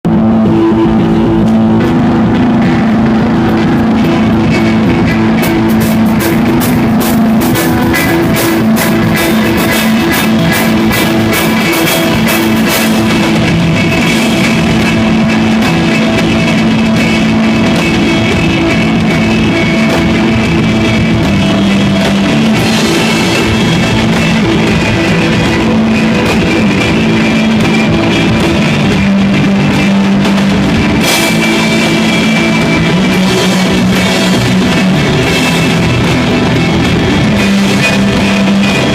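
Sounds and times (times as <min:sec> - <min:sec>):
loud live rock band: 0:00.0 - 0:38.9
drum and cymbal strikes: 0:00.1 - 0:38.9.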